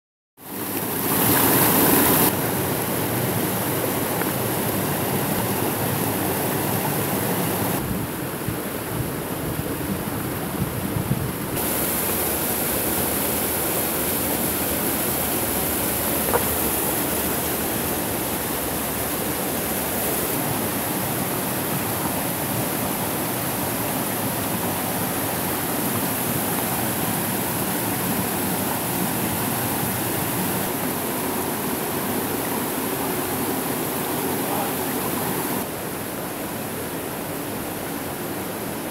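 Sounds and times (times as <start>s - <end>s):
small waterfall splashing over rocks: 0.4s - 7.8s, 11.6s - 36.2s.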